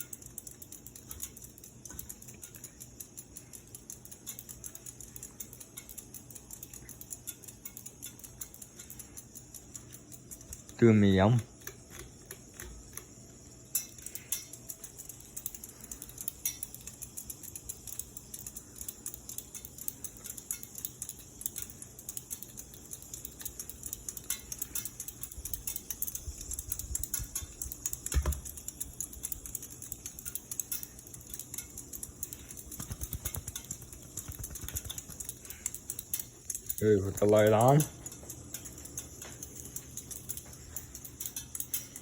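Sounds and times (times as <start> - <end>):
ceiling fan motor hum: 0.0 - 42.0
fast irregular clicking: 0.0 - 42.0.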